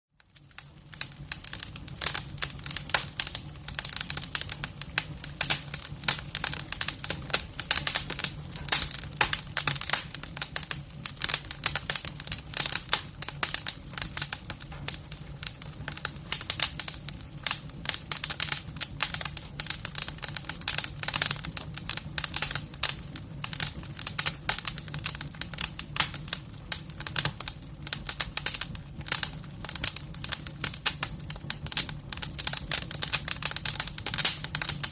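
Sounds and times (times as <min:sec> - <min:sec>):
firewood crackling and popping: 0:00.1 - 0:34.9.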